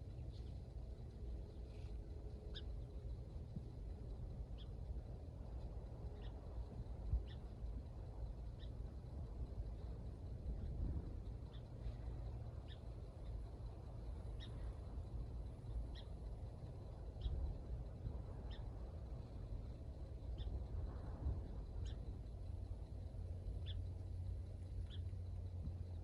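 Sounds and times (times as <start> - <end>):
wind rumble: 0.0 - 26.0.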